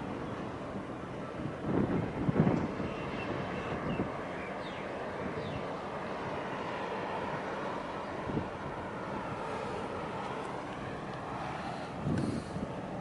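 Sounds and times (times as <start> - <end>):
low harbour rumble: 0.0 - 13.0
wind buffeting microphone: 0.0 - 13.0.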